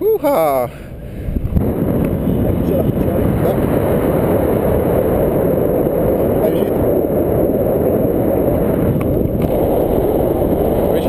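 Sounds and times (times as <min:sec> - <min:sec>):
wind rumble on microphone: 0:00.8 - 0:11.0.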